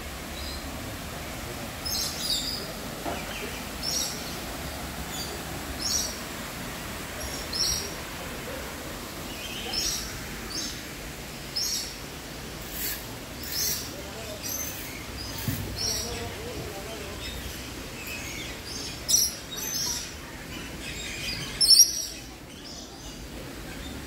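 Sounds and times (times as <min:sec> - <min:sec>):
water rushing from small waterfall: 0:00.0 - 0:24.0.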